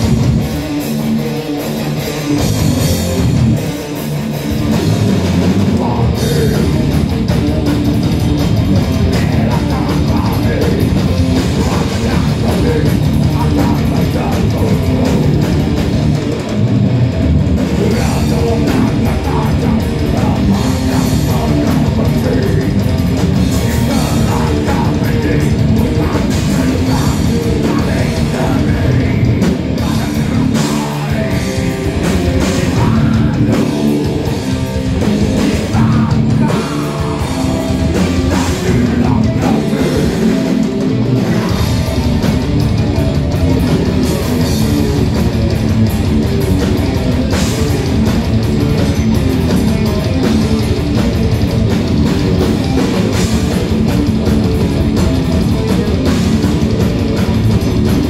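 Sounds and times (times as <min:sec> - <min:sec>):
distorted electric guitars: 0:00.0 - 0:58.0
pounding drum kit: 0:00.0 - 0:58.0.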